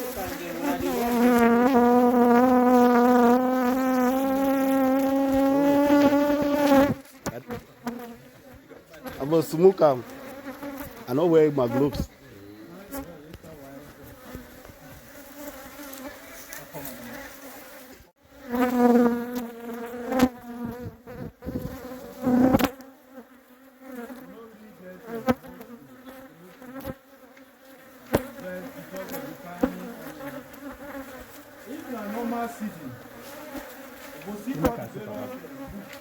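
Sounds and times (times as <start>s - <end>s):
bees buzzing: 0.0s - 8.4s, 9.0s - 36.0s.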